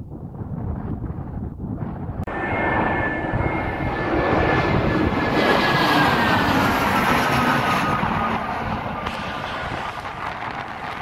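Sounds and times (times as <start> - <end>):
wind buffeting microphone: 0.0 - 11.0
jet airliner passing overhead: 0.8 - 11.0.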